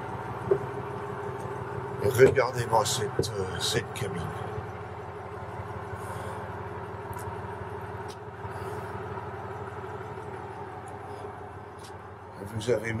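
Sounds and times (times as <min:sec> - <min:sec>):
diesel engine hum through hull: 0:00.0 - 0:13.0.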